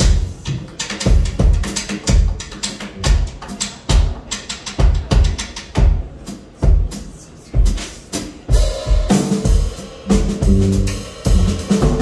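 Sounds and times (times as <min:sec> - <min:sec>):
jazz drum kit playing: 0:00.0 - 0:12.0.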